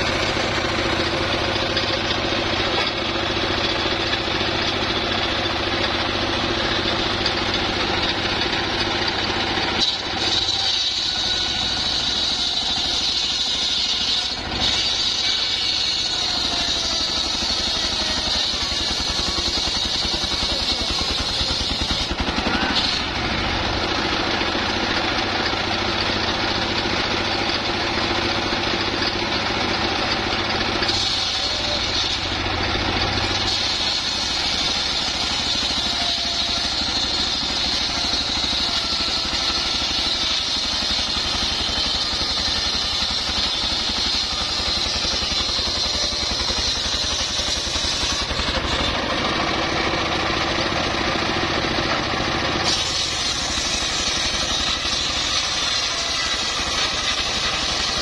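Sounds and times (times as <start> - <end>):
circular saw cutting log: 0.0 - 58.0
diesel engine running: 0.0 - 58.0.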